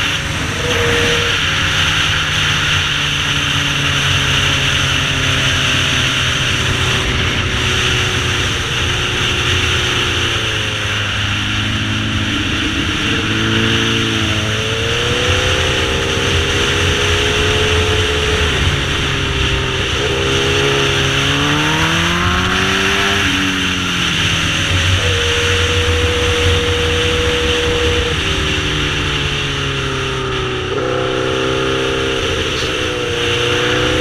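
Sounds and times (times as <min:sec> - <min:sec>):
motorcycle engine revving: 0:00.0 - 0:34.0
wind noise: 0:00.0 - 0:34.0.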